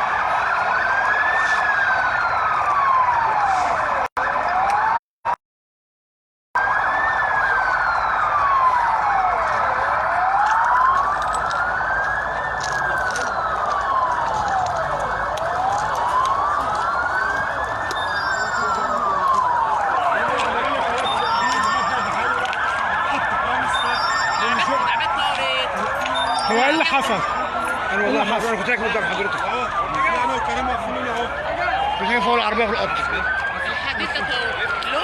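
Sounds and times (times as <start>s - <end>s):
emergency siren wailing: 0.0s - 5.0s, 6.6s - 35.0s.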